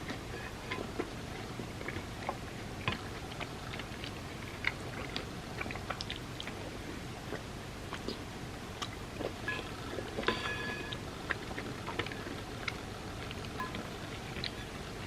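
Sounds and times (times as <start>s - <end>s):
small wet clicks: 0.0s - 10.2s, 10.9s - 15.0s
close chewing and mouth sounds: 0.0s - 15.0s.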